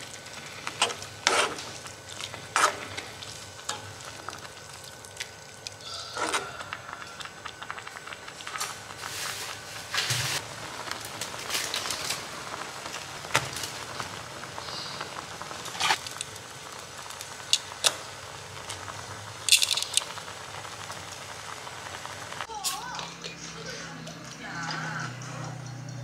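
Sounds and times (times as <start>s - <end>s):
broth boiling and bubbling: 0.0s - 25.4s.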